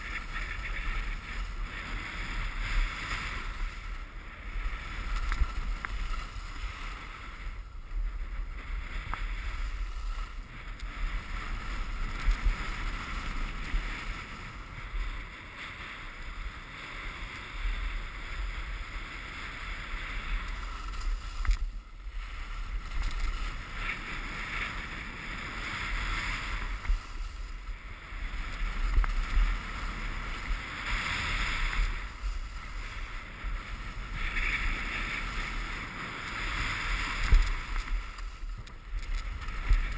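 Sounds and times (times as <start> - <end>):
skis sliding on snow: 0.0 - 39.9
wind buffeting microphone: 0.0 - 39.9.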